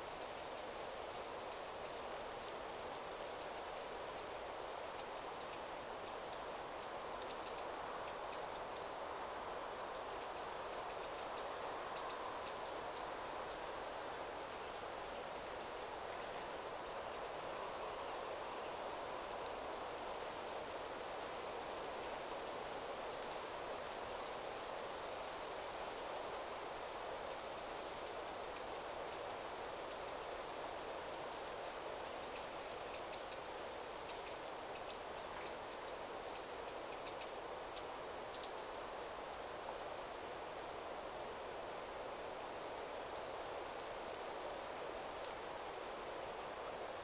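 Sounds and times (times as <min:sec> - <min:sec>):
wind rustling through trees: 0:00.0 - 0:47.0.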